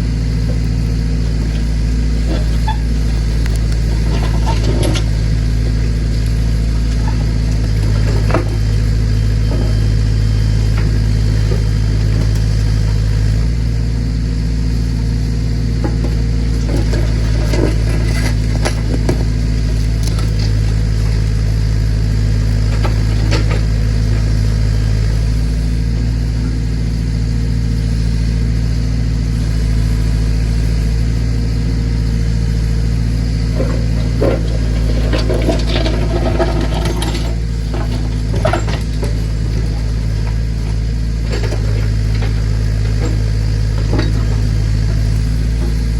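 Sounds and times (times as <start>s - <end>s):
backhoe engine running: 0.0s - 45.9s.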